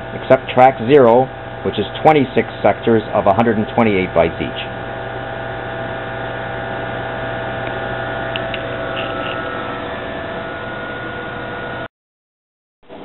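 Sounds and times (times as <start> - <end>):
electrical hum: 0.0 - 11.9
whining tones of computer drives: 0.0 - 11.9.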